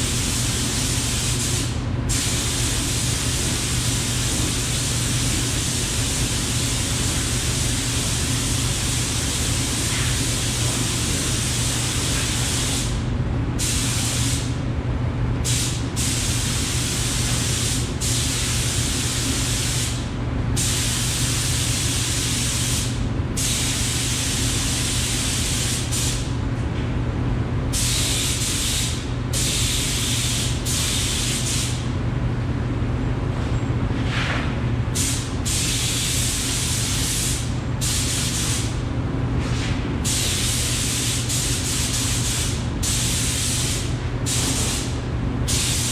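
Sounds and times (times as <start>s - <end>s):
exhaust fan humming: 0.0s - 45.9s.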